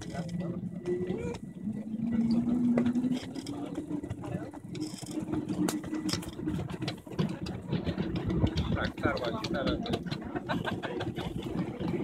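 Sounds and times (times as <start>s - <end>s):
miniature train running on track: 0.0s - 12.0s.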